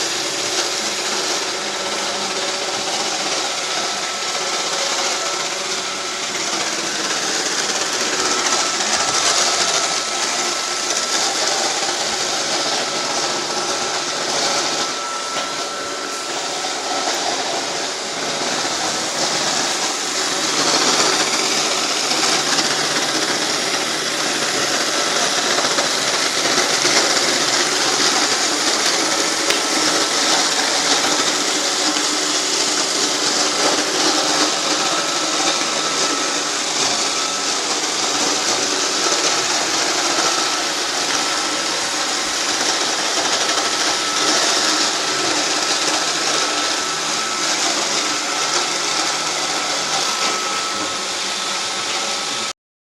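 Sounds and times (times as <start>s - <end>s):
robot vacuum whirring: 0.0s - 52.5s.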